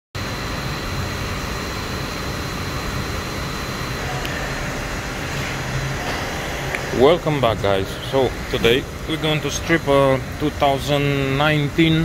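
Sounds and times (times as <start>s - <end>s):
faint high whine: 0.2s - 12.0s
low mechanical hum with hiss: 0.2s - 12.0s.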